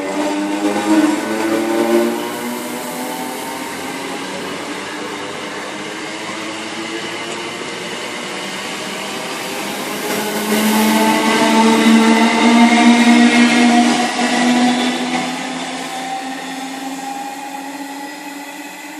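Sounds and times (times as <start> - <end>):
train rushing: 0.0 - 18.9.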